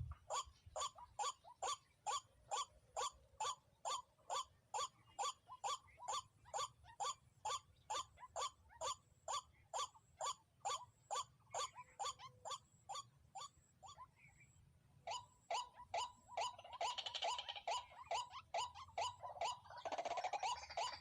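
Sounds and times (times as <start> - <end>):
waterhen calling: 0.0 - 21.0.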